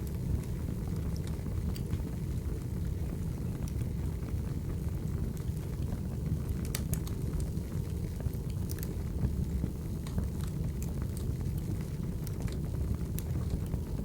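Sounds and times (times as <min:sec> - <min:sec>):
burning logs crackling and popping: 0:00.0 - 0:14.0
fire flames rumbling: 0:00.0 - 0:14.0.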